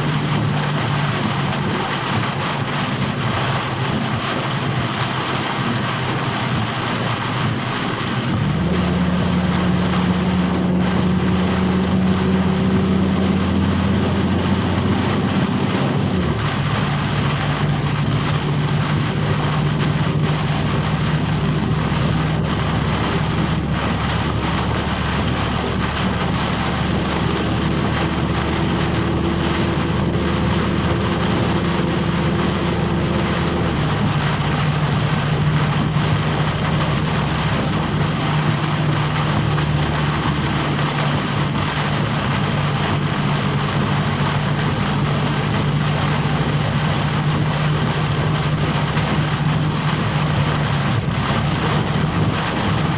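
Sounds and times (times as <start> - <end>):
heavy rain beating down: 0.0 - 52.9
truck engine humming: 0.0 - 52.9.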